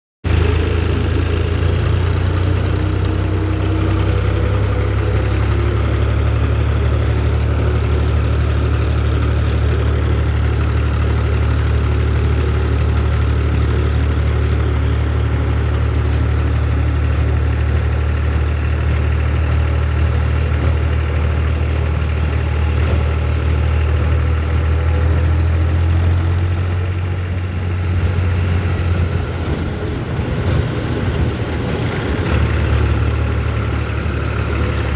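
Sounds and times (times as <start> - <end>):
tractor engine running: 0.2 - 34.9.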